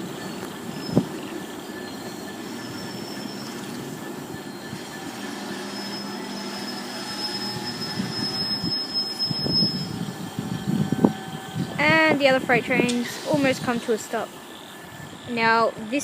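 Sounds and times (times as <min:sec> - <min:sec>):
high brake squeal: 0:00.0 - 0:16.0
train wheels rumbling: 0:00.0 - 0:16.0.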